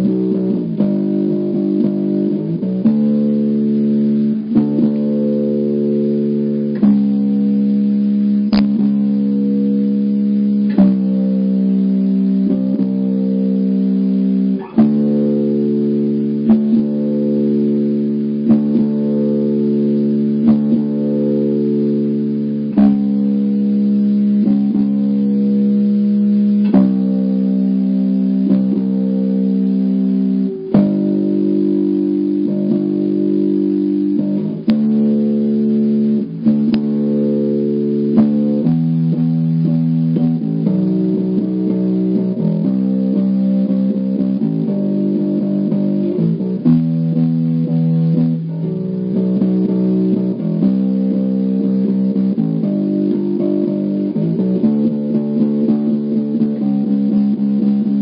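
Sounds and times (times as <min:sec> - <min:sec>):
electric bass plucking slow notes: 0:00.0 - 0:58.0.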